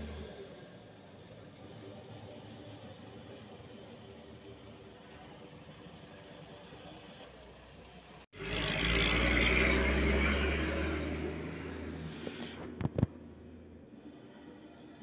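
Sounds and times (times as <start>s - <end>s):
heavy truck driving past: 0.0s - 12.8s.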